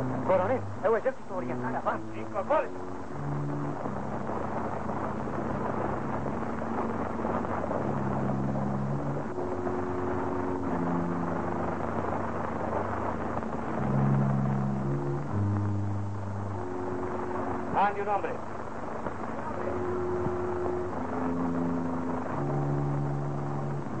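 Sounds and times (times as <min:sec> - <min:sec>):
low held orchestral notes: 0:00.0 - 0:24.0.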